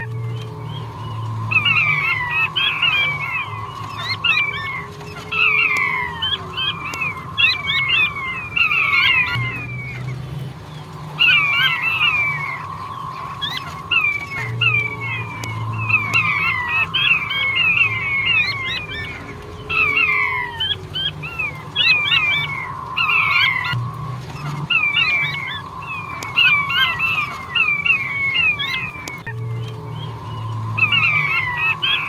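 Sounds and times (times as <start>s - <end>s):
quail calling whistled notes: 0.0s - 32.0s
thin steady whistle tone: 0.0s - 32.0s.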